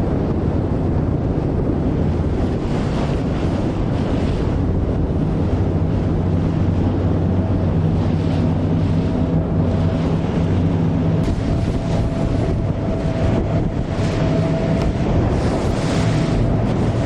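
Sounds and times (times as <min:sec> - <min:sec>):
rushing water: 0:00.0 - 0:17.0
steady low hum: 0:00.0 - 0:17.0
wind buffeting microphone: 0:00.0 - 0:17.0.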